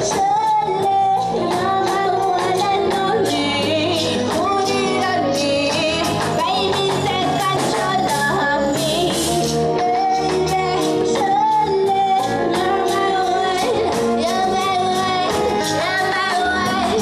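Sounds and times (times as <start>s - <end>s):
band playing: 0.0s - 17.0s
woman singing into microphone: 0.0s - 17.0s.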